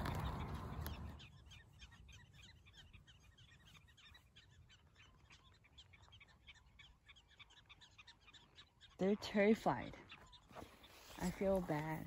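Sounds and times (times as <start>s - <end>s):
prairie dogs alarm chirps: 0.0s - 12.0s.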